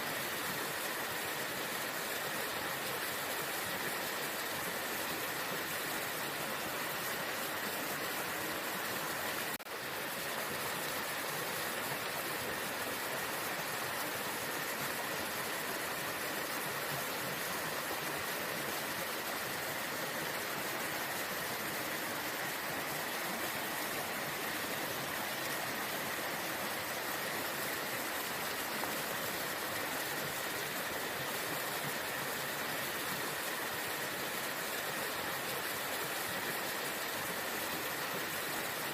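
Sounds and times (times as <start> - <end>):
water rushing in waterfall: 0.0 - 38.9.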